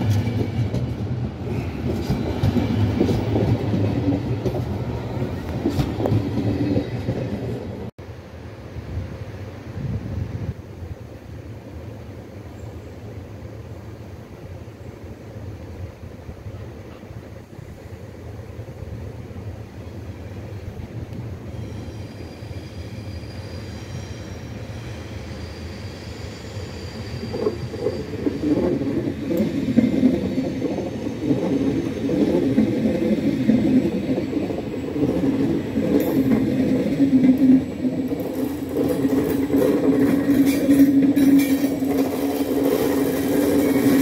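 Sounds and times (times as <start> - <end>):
train wheels rumbling on rails: 0.0 - 8.0, 15.6 - 44.0.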